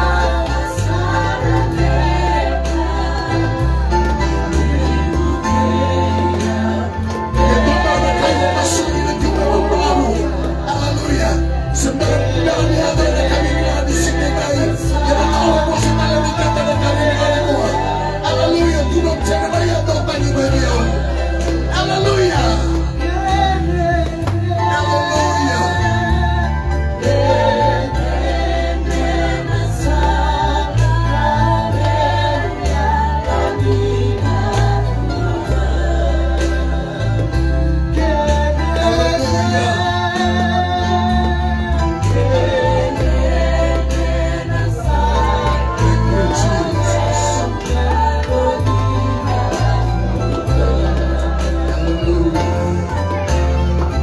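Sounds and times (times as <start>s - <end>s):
amplified band: 0.0s - 54.0s
bass line: 0.0s - 54.0s
voices singing gospel: 0.0s - 54.0s.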